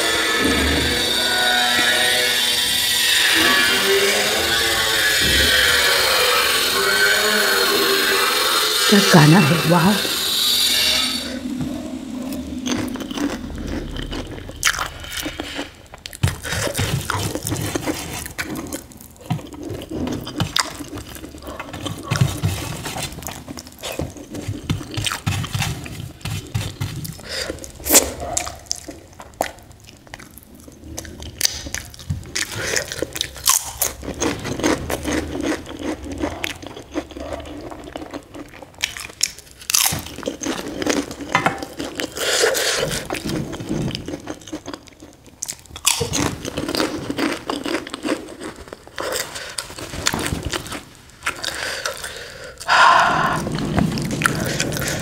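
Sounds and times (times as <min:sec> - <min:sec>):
chewing and wet mouth sounds: 0:07.6 - 0:55.0.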